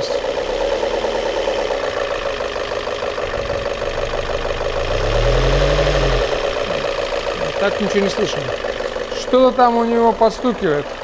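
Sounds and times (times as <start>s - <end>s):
car engine idling: 0.0s - 11.0s
slight engine tapping: 0.0s - 11.0s.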